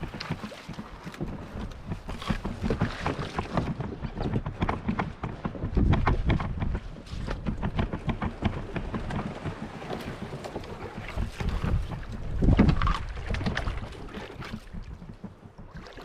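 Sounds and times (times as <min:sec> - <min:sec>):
irregular knocks and taps: 0:00.0 - 0:13.0, 0:14.4 - 0:16.0
wind buffeting microphone: 0:00.0 - 0:16.0.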